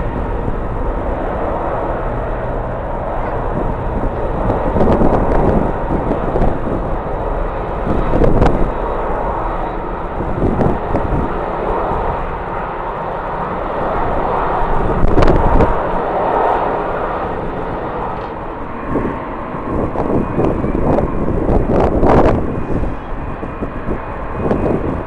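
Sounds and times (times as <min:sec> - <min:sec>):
airliner engines running: 0:00.0 - 0:25.0
wind gusting on microphone: 0:00.0 - 0:25.0.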